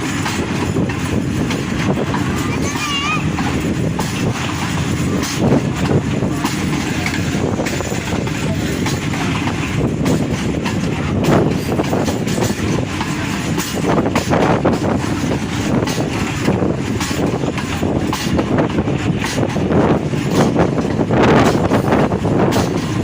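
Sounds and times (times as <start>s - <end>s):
train rumbling: 0.0s - 23.0s
wheels clacking over rail joints: 0.0s - 23.0s.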